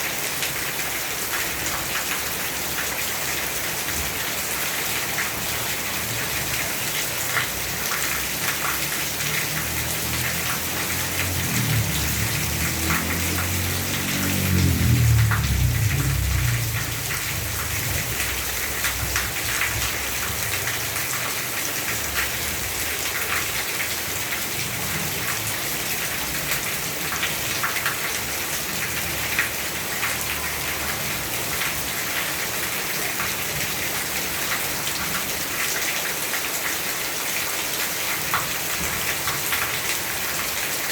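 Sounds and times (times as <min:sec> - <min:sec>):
raindrops ticking on surfaces: 0:00.0 - 0:40.9
steady rain falling: 0:00.0 - 0:40.9.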